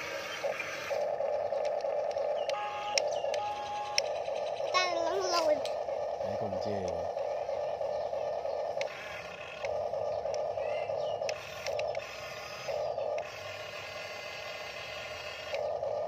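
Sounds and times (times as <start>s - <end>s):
toy motors whirring: 0.0s - 16.0s.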